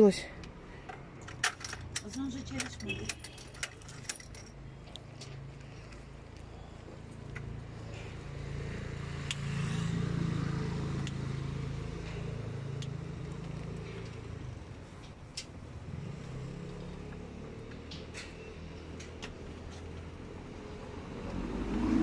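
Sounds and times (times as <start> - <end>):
low vehicle hum: 4.0 - 22.0.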